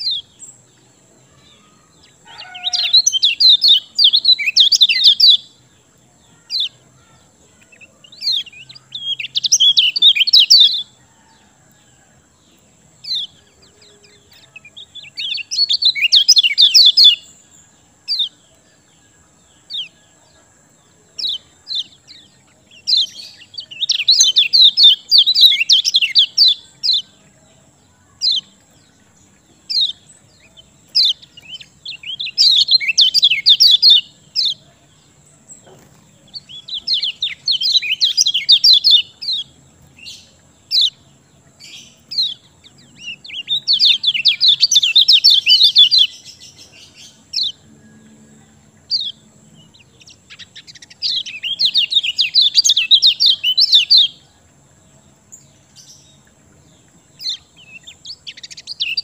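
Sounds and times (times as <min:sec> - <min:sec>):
songbird chirps and twittering: 0:00.0 - 0:59.0.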